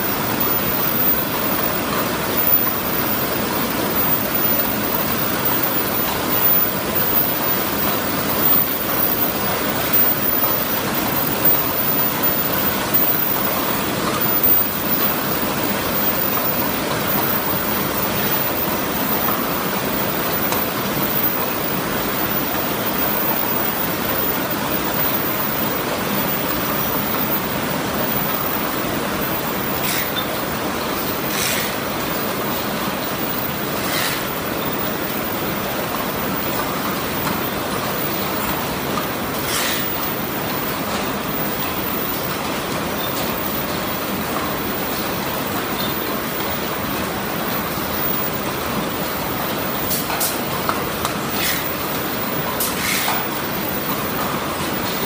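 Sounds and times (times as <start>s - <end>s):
cup forming machines running: 0.0s - 55.0s.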